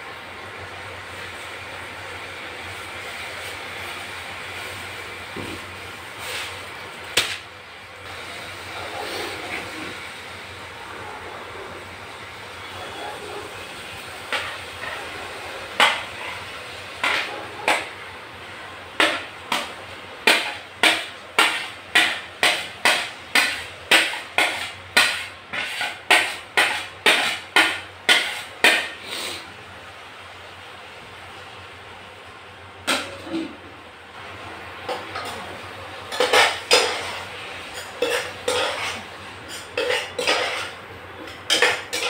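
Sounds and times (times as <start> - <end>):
steady background noise: 0.0 - 42.0.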